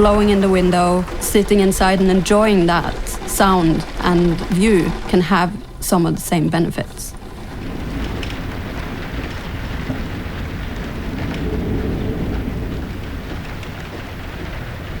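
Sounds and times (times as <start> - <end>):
deep rumble: 0.0 - 15.0
heavy rain: 0.0 - 15.0
wind: 0.0 - 15.0.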